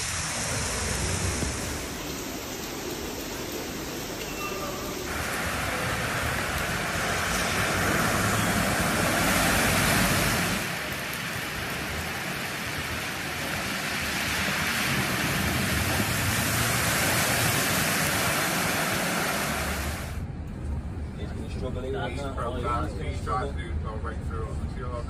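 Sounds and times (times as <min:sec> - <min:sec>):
cars splashing through floodwater: 0:00.0 - 0:25.0
heavy rain: 0:00.0 - 0:25.0.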